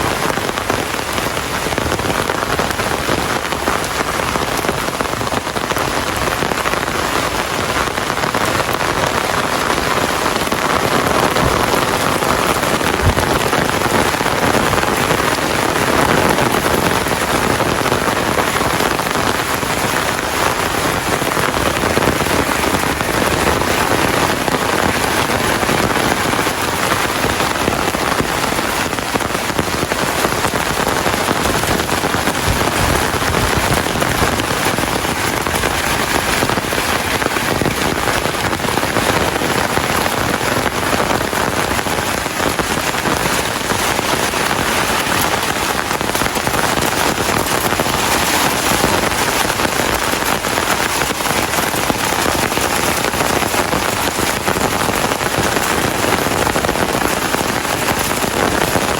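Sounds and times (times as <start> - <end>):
heavy rain pattering: 0.0 - 58.9.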